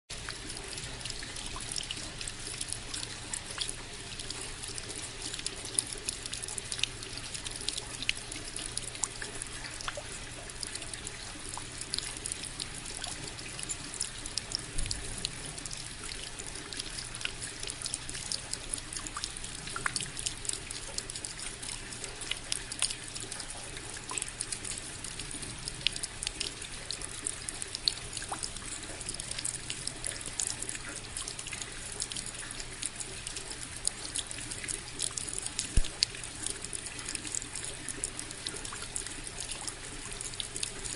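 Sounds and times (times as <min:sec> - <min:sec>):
water trickling and splashing: 0:00.1 - 0:40.9.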